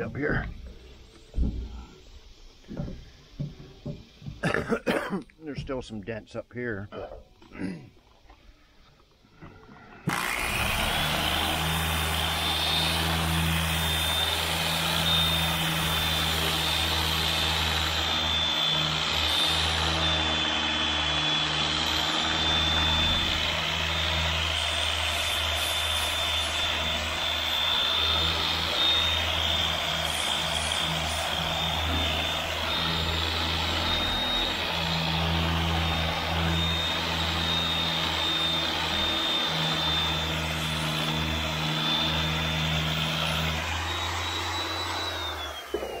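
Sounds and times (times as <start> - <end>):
angle grinder whining: 9.0 - 46.0.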